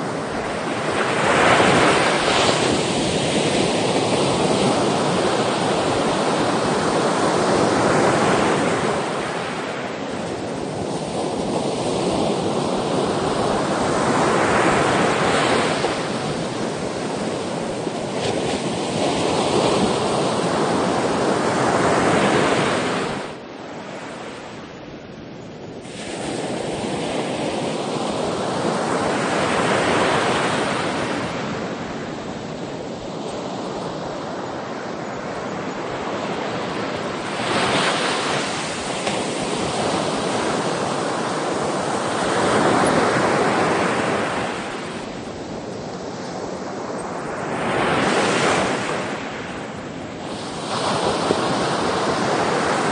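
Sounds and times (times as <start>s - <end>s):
ocean waves breaking: 0.0s - 24.6s, 25.8s - 52.9s.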